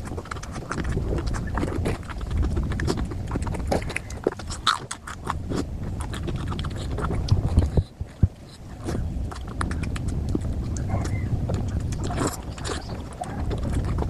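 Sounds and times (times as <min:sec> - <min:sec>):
chewing and lip-smacking: 0:00.0 - 0:14.0.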